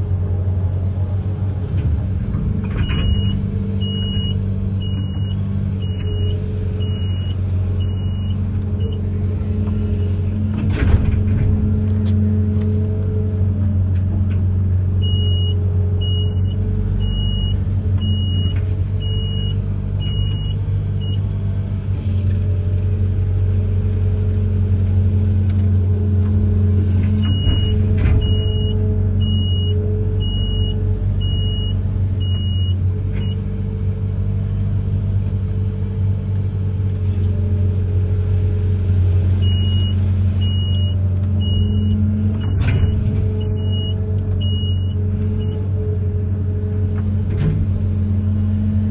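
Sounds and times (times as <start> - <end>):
excavator engine running: 0.0 - 48.9.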